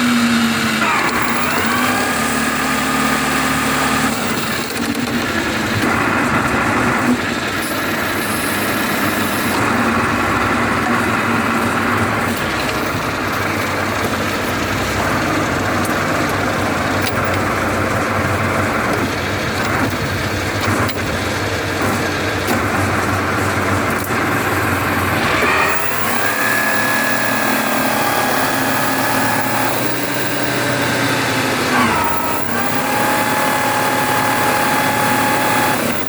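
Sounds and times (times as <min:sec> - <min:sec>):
tractor engine running under load: 0:00.0 - 0:36.0.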